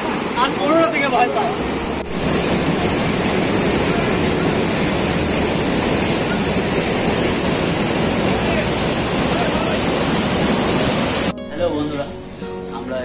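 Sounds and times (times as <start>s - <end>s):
river rushing over rapids: 0.0s - 11.3s.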